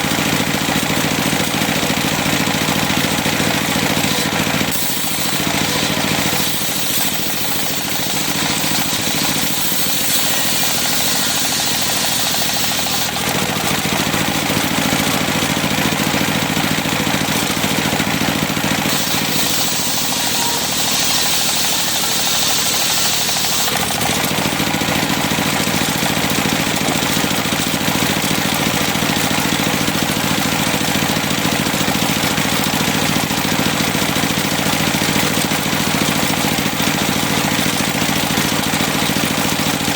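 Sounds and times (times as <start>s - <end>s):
circular sawmill engine running: 0.0s - 39.9s
saw blade cutting timber: 0.0s - 39.9s.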